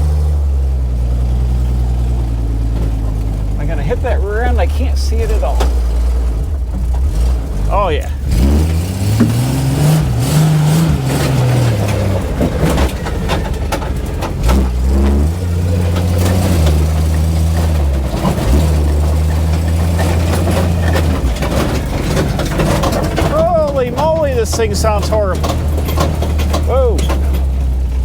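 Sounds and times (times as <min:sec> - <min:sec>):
truck engine revving: 0:00.0 - 0:28.0
clanging and banging: 0:02.6 - 0:28.0.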